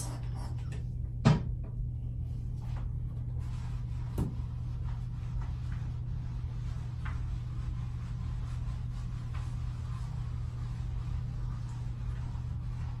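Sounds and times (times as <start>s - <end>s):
steady low hum: 0.0s - 13.0s
mitt rubbing on skin: 2.6s - 13.0s.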